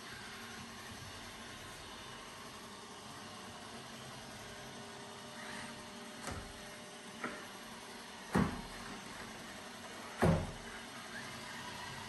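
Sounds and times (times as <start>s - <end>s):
robot vacuum hissing: 0.0s - 12.0s.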